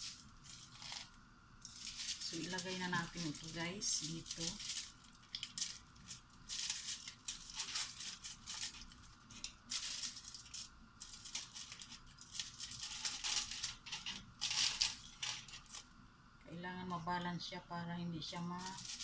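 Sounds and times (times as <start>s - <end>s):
aluminium foil crinkling: 0.0s - 16.0s, 18.2s - 19.0s.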